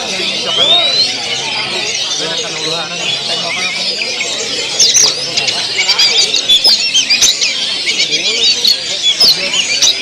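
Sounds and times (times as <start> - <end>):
songbirds singing: 0.0 - 10.0.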